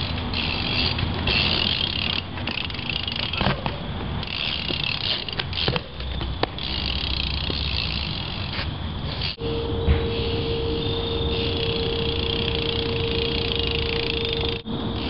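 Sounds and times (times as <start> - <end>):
bike tyres rolling: 0.0 - 15.0.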